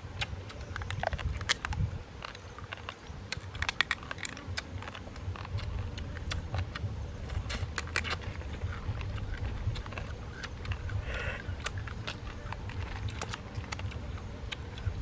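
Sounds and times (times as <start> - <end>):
crab shells cracking and crunching: 0.0 - 15.0
low steady rumble: 0.0 - 15.0.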